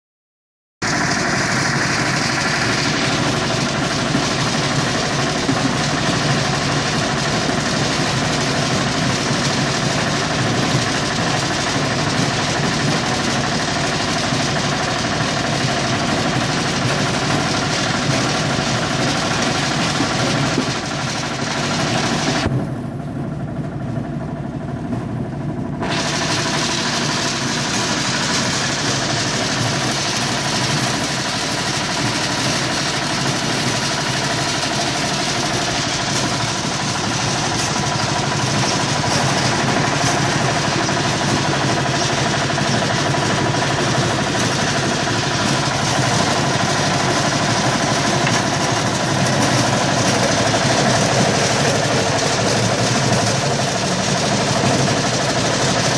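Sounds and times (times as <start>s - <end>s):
grading machine running: 0.8s - 55.9s.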